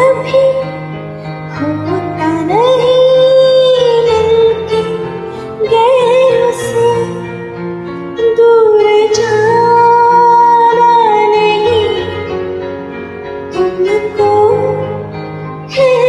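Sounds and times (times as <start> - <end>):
karaoke backing track: 0.0 - 16.0
woman singing a ballad: 0.0 - 16.0.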